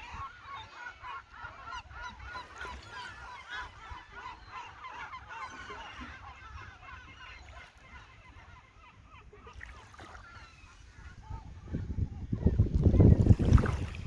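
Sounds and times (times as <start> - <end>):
seagulls calling: 0.0 - 14.0.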